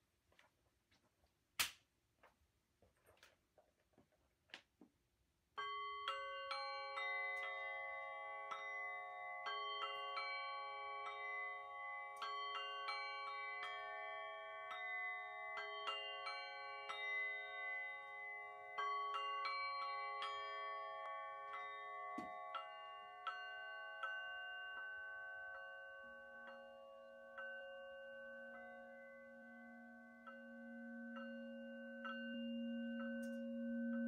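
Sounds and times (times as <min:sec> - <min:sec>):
crystal singing bowls ringing: 0:05.6 - 0:34.0.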